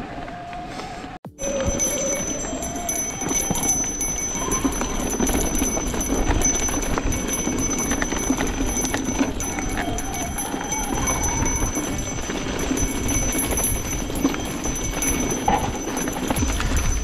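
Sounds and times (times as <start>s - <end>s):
tyres rushing on dirt: 0.0s - 17.0s
chain and frame rattling: 1.4s - 17.0s.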